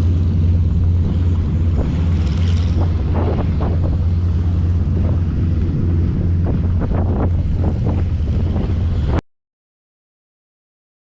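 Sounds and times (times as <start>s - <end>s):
radial aircraft engine droning: 0.0s - 9.2s
wind rumble on microphone: 0.0s - 9.2s.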